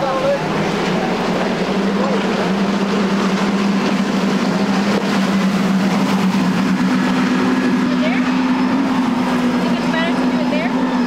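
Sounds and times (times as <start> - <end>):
boat spray and wake rushing: 0.0 - 11.0
outboard motors droning: 0.0 - 11.0.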